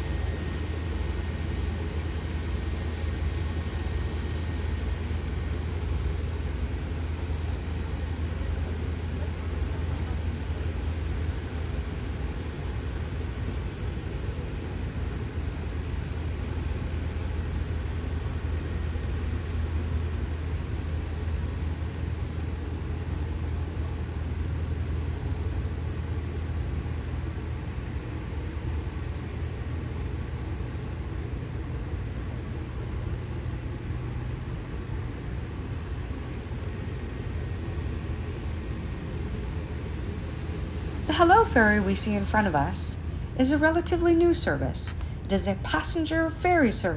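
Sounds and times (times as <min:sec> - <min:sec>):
turboprop engine running: 0:00.0 - 0:46.9.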